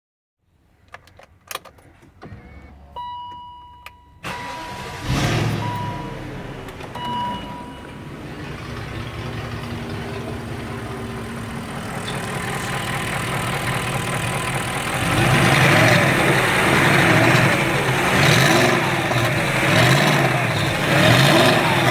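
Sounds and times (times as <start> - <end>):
car engine starting and idling: 0.8 - 21.9.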